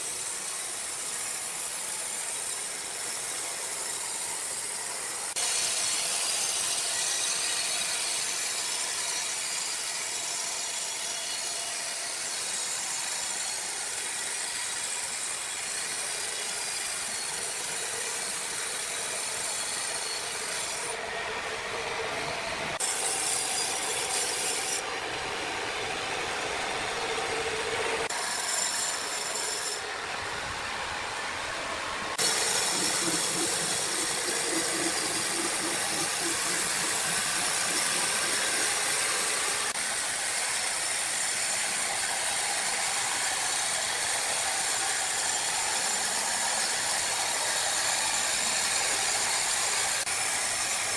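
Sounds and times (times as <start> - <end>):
power saw cutting wood: 0.0 - 30.8, 32.1 - 50.9.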